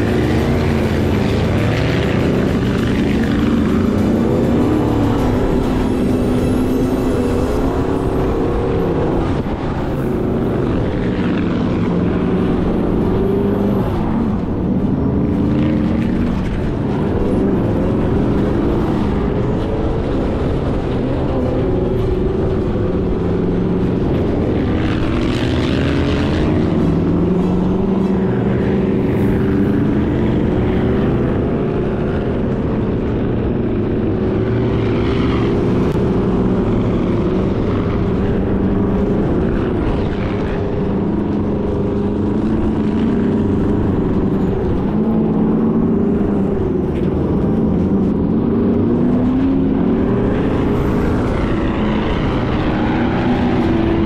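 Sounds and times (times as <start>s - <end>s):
engine running hard: 0.0s - 54.0s
rushing wind and sand: 0.0s - 54.0s.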